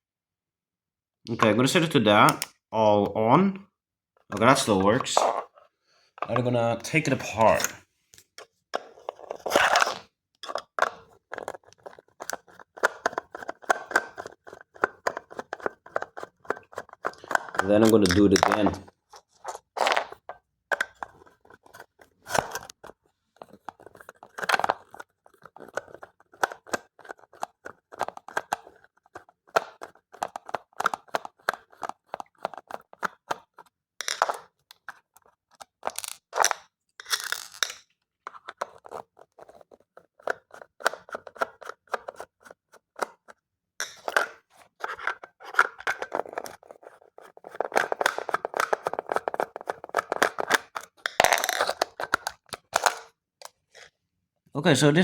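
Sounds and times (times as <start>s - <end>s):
plastic clacks: 6.2s - 54.0s
small clicks and scrapes: 7.3s - 54.0s.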